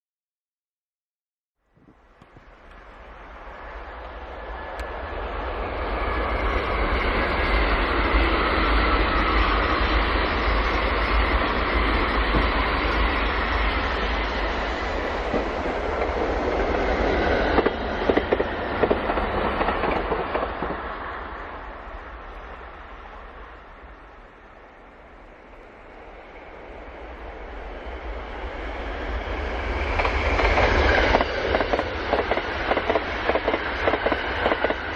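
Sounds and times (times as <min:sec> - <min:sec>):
electric train passing: 0:01.9 - 0:34.9.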